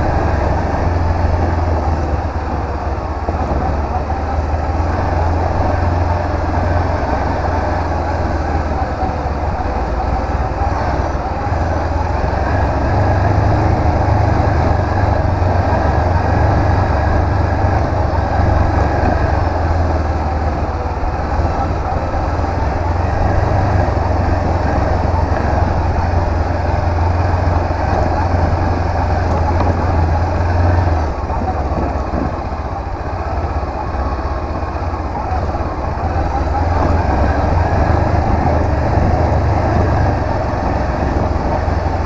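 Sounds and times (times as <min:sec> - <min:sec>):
motorcycle engine running: 0:00.0 - 0:42.0
wind and road rumble: 0:00.0 - 0:42.0.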